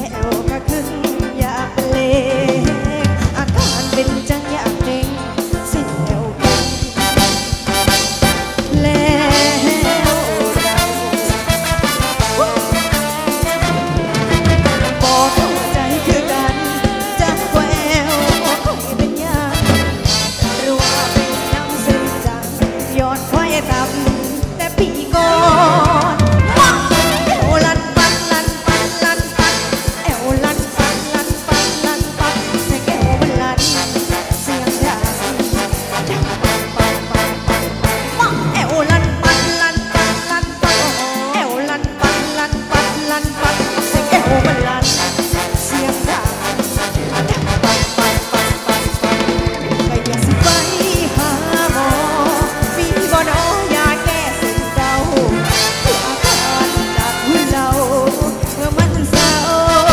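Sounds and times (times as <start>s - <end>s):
dance band music: 0.0s - 59.9s
steady drum beat: 0.0s - 59.9s.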